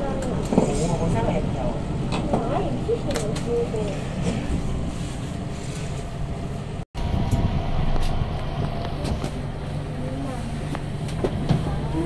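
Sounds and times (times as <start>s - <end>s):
lift rumbling: 0.0s - 12.0s.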